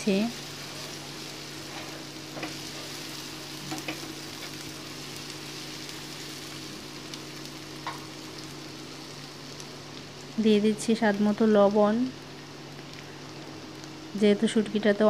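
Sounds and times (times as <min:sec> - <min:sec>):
onions frying in hot oil: 0:00.0 - 0:15.0.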